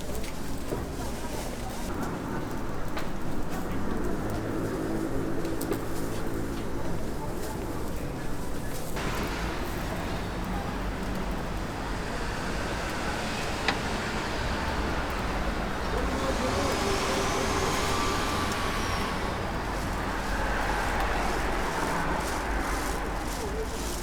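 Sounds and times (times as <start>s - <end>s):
cars passing rumble: 0.5s - 24.0s.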